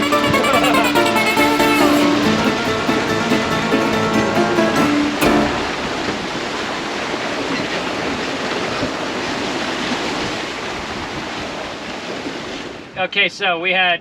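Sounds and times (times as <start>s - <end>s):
water rushing past boat: 1.7s - 12.9s.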